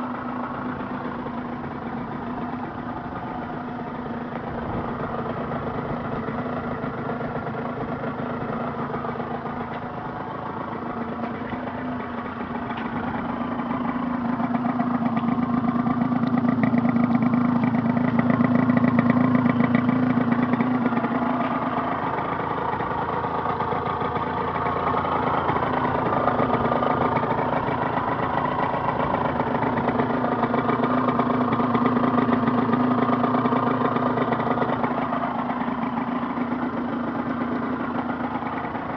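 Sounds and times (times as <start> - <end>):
two-stroke engine idling: 0.0 - 38.9.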